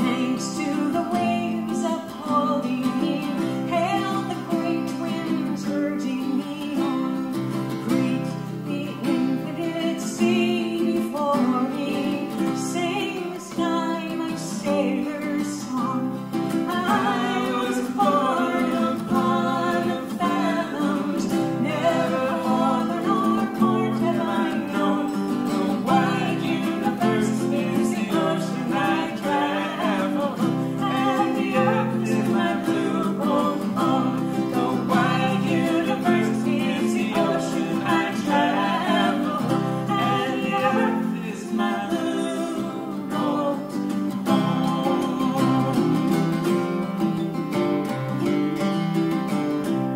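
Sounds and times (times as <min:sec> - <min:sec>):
people singing: 0:00.0 - 0:46.8
acoustic guitar: 0:00.0 - 0:49.9
ukulele: 0:00.0 - 0:49.9.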